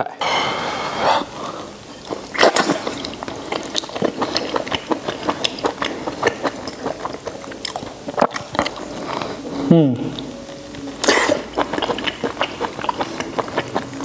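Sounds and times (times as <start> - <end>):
person chewing with wet smacks: 1.8 - 14.0.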